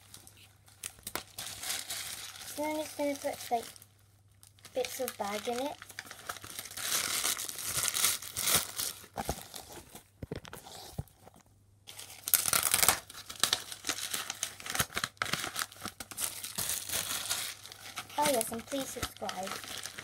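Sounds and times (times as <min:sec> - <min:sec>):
plastic bag crinkling: 0:00.0 - 0:10.4, 0:11.9 - 0:20.0.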